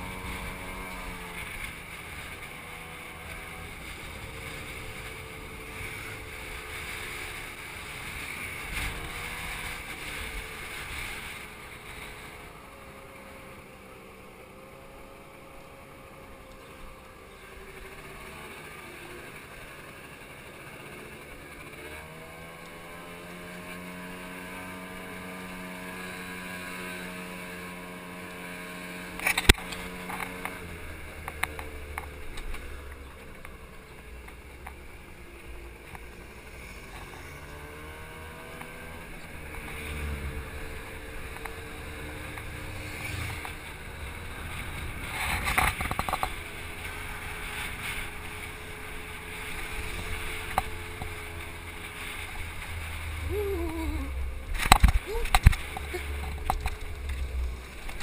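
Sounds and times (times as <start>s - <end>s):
motor scooter engine running: 0.0s - 58.0s
road and air noise: 0.0s - 58.0s.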